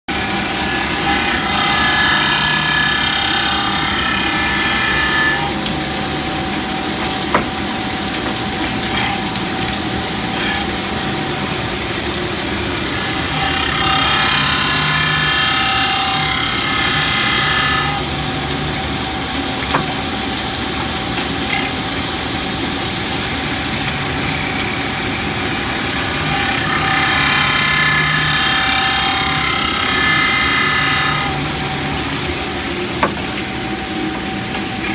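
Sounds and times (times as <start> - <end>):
band saw blade grinder grinding: 0.1 - 34.9.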